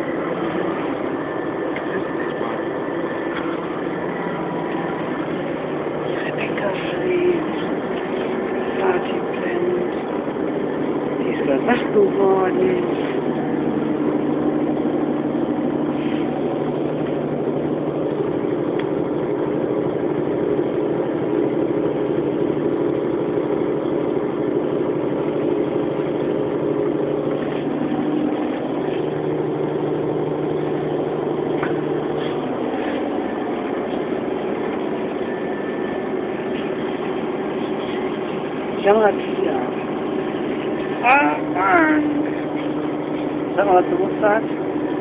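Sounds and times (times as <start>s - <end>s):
coach engine and road drone: 0.0s - 45.0s.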